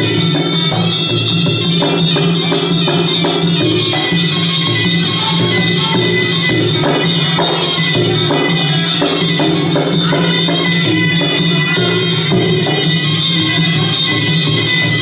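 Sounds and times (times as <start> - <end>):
drums: 0.0 - 15.0
small cymbals beating: 0.0 - 15.0.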